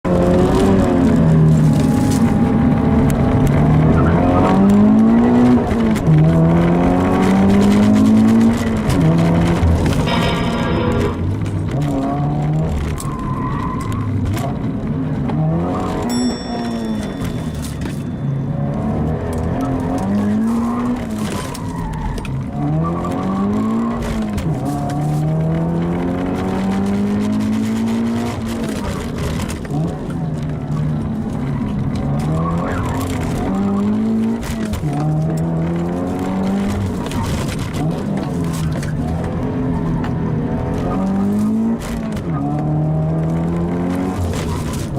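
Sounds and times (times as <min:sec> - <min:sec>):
car engine accelerating hard: 0:00.1 - 0:16.1, 0:18.5 - 0:44.9.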